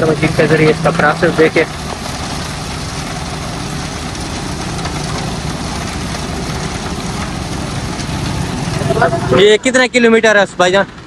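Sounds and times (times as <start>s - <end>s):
truck diesel engine rumble: 0.0s - 11.0s.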